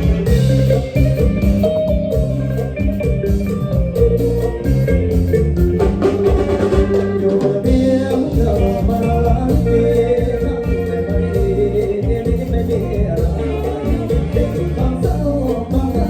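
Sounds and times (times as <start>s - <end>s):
bass and drum beat: 0.0s - 16.0s
plucked melody line: 0.0s - 16.0s.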